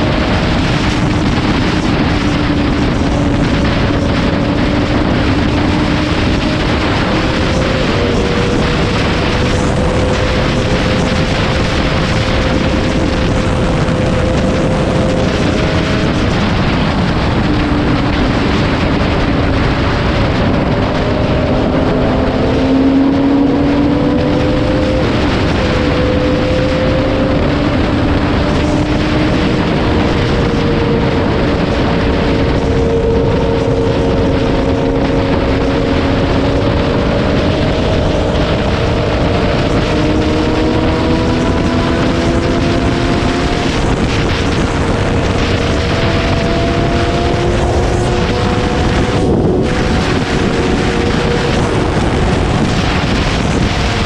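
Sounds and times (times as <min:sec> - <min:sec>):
motorcycle engine hum: 0:00.0 - 0:54.0
wind rush on microphone: 0:00.0 - 0:54.0.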